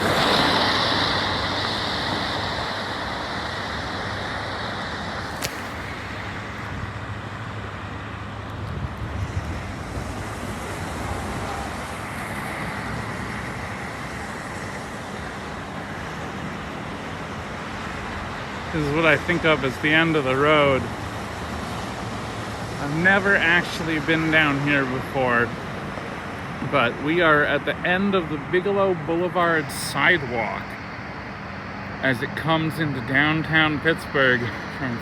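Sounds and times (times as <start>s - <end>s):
road traffic noise: 0.0s - 35.0s.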